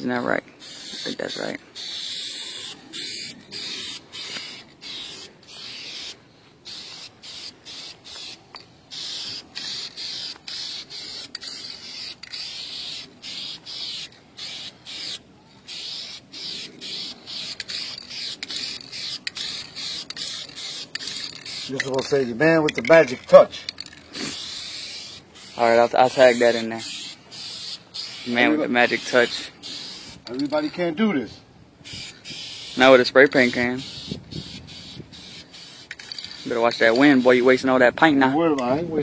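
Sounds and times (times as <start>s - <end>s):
spray paint can hissing: 0.6s - 30.6s, 31.8s - 37.8s.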